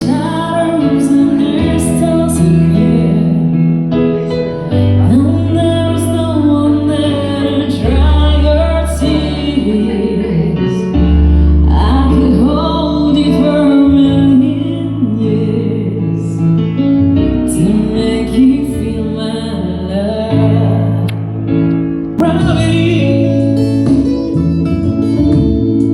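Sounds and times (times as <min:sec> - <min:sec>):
woman singing a slow melody: 0:00.0 - 0:03.8, 0:04.5 - 0:16.6, 0:17.4 - 0:21.3, 0:22.2 - 0:25.9
bass notes: 0:00.0 - 0:25.9
sustained keyboard chords: 0:00.0 - 0:25.9.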